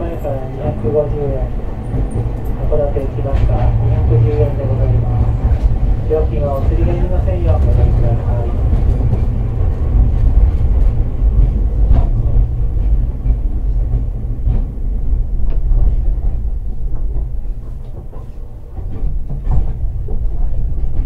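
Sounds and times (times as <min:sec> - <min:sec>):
rail joint clacks: 0:00.0 - 0:21.0
streetcar wheels rumbling on rail: 0:00.0 - 0:21.0.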